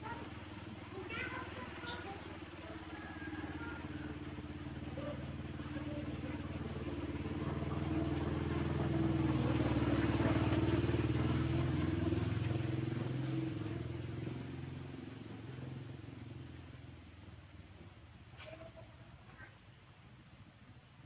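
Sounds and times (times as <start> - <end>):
motorcycle passing: 0.0 - 17.6.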